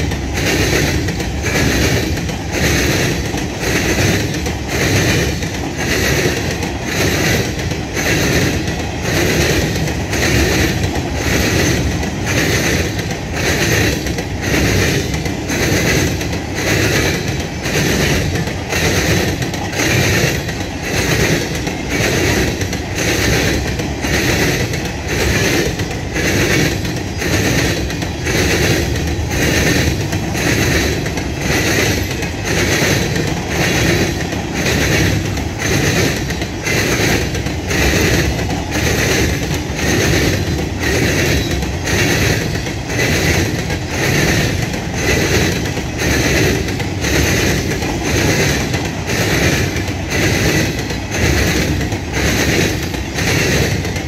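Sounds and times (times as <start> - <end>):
train rumble: 0.0 - 54.0
train wheels clattering: 0.0 - 54.0.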